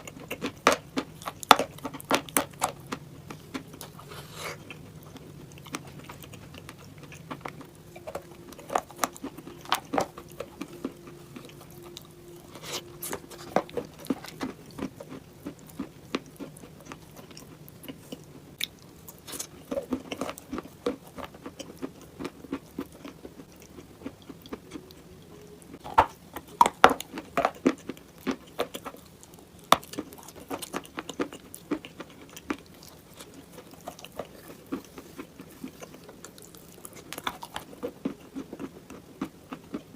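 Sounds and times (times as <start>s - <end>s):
person chewing brittle clay: 0.0s - 39.9s.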